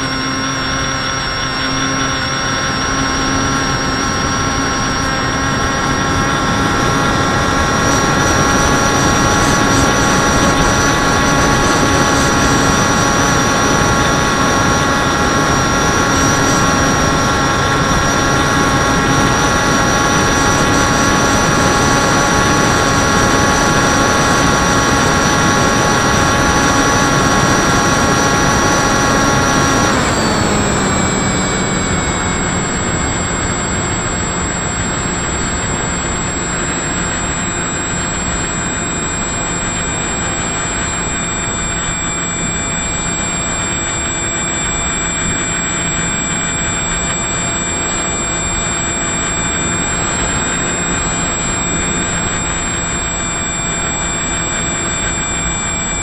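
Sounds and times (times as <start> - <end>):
electric motor and propeller whine: 0.0 - 56.0.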